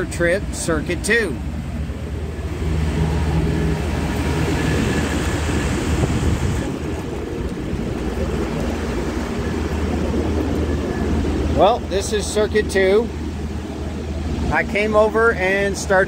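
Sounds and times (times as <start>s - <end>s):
machinery drone with fan air: 0.0s - 16.0s.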